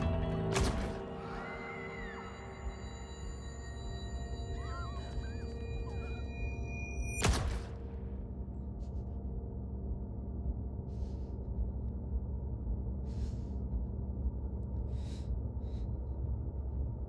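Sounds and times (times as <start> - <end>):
low soundtrack drone: 0.0 - 17.0.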